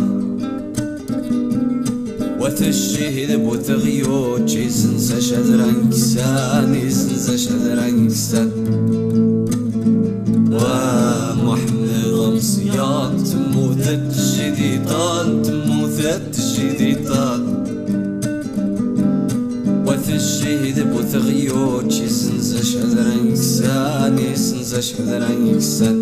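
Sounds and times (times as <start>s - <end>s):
acoustic guitar plucking chords: 0.0s - 26.0s.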